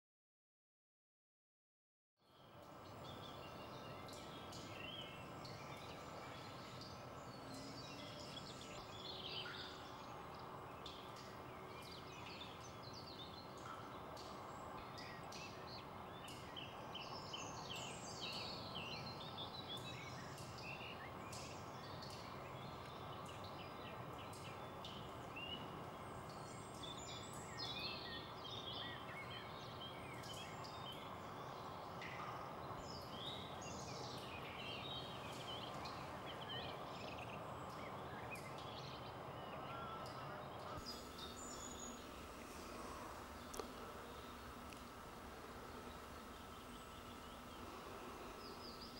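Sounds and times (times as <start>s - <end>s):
small birds chirping: 2.3s - 48.9s
steady background hiss: 2.3s - 48.9s.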